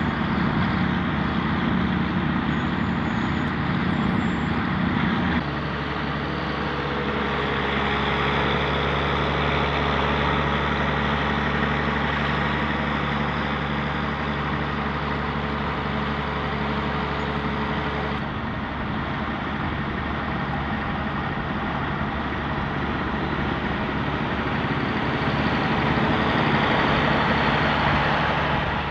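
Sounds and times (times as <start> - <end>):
snow blower diesel engine running: 0.0 - 28.9.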